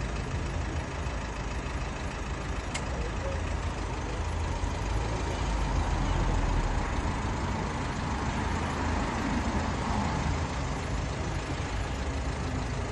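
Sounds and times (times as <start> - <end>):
moving vehicle rumble and hiss: 0.0 - 12.9.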